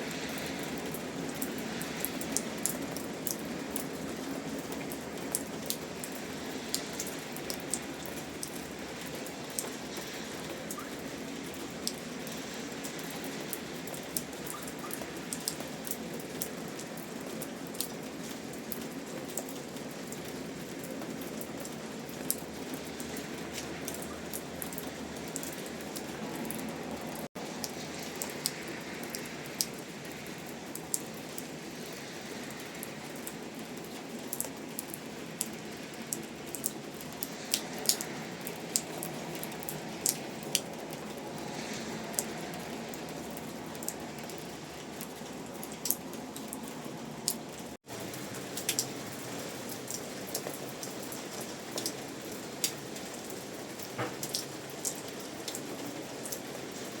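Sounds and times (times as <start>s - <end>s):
raindrops ticking on surface: 0.0s - 57.0s
steady rain falling: 0.0s - 57.0s.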